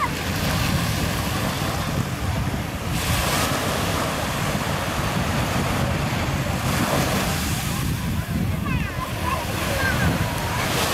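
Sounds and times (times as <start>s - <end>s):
sea waves washing ashore: 0.0s - 10.9s
wind buffeting microphone: 0.0s - 10.9s.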